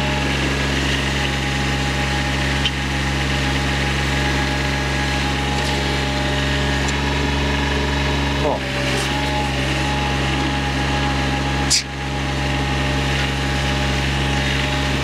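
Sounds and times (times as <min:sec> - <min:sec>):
mower diesel engine running: 0:00.0 - 0:15.0.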